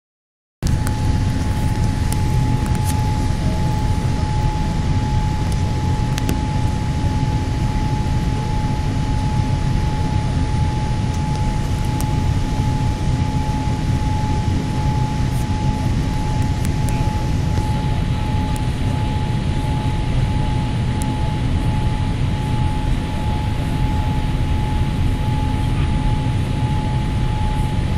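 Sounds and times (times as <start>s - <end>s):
aircraft engine drone: 0.6s - 27.9s
high hum: 0.6s - 27.9s.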